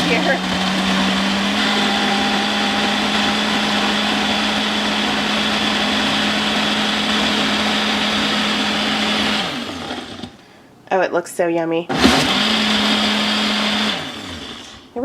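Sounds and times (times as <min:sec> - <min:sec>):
blender motor humming: 0:00.0 - 0:10.4, 0:11.9 - 0:14.8.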